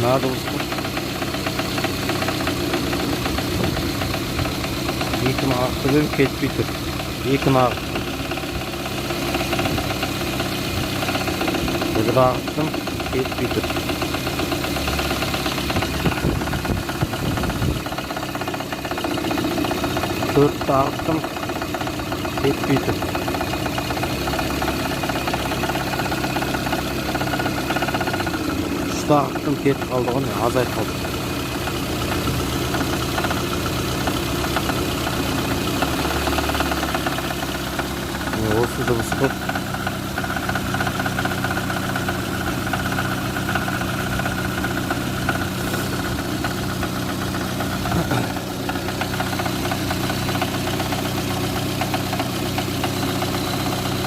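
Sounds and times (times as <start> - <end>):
car engine idling with knock: 0.0 - 54.0.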